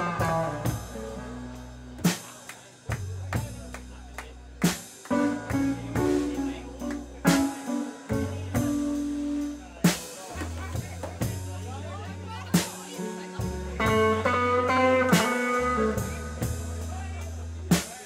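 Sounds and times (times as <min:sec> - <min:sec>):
electric guitar: 0:00.0 - 0:03.8, 0:04.6 - 0:10.8, 0:13.0 - 0:17.4
drum accents: 0:00.0 - 0:11.8, 0:12.4 - 0:18.0
live band playing: 0:00.0 - 0:18.0.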